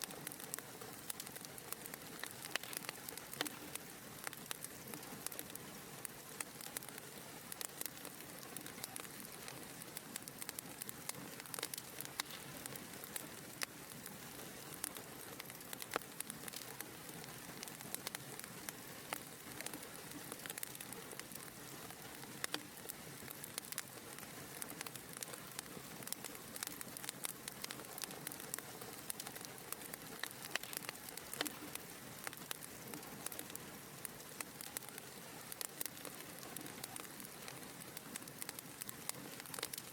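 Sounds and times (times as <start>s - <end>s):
soft hiss of flames: 0.0s - 39.9s
wood fire crackling and popping: 0.0s - 39.9s.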